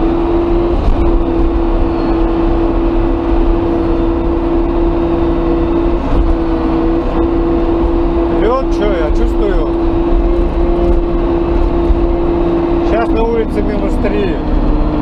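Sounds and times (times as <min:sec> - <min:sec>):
diesel engine rumble and whine: 0:00.0 - 0:15.0.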